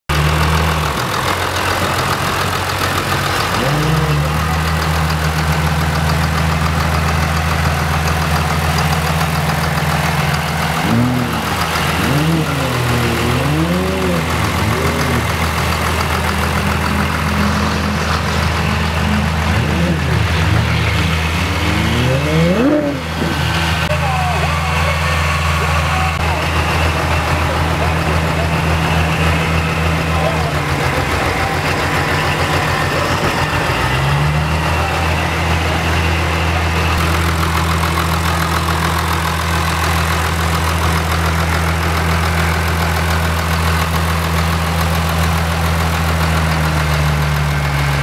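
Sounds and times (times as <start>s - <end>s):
diesel engine idling: 0.1s - 48.0s.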